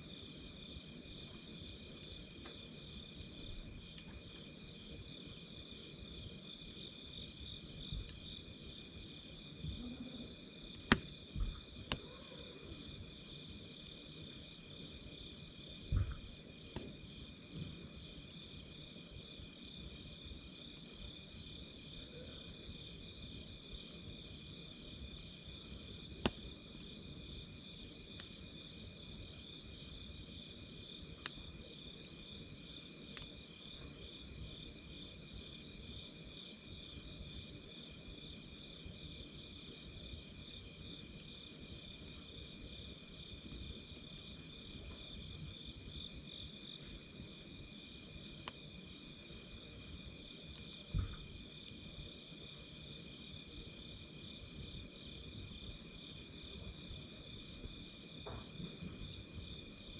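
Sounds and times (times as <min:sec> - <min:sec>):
campfire crackling and popping: 0:00.0 - 0:12.1, 0:12.8 - 0:22.0, 0:22.8 - 0:36.3, 0:37.0 - 0:59.9
insects chirping: 0:00.0 - 0:59.9.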